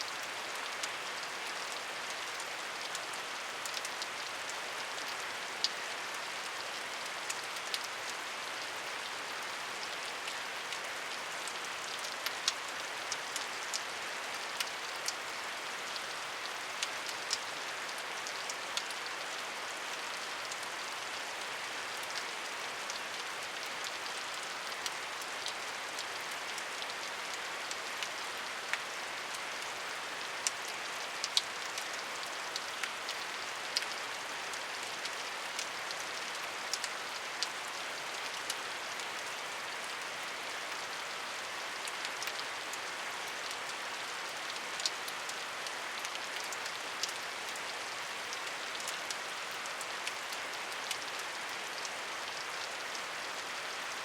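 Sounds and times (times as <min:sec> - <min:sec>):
rain ticking on a hard surface: 0:00.0 - 0:54.0.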